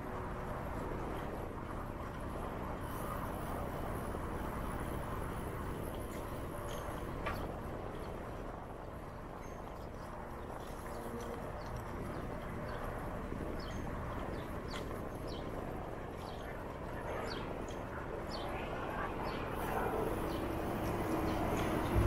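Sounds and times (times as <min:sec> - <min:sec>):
wind and bicycle tyres rumble: 0:00.0 - 0:22.0.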